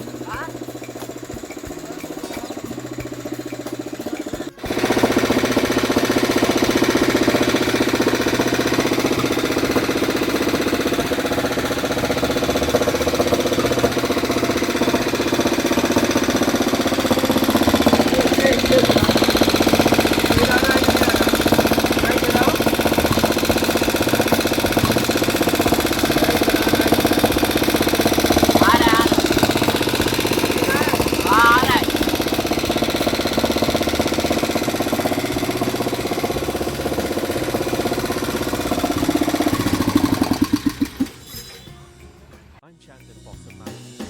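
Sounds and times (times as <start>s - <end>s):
single-cylinder engine running: 0.0s - 41.5s.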